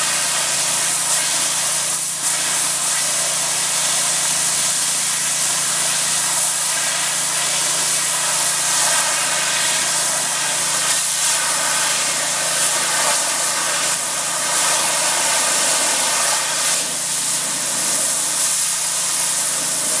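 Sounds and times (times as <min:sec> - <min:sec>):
pressure washer hissing: 0:00.0 - 0:20.0.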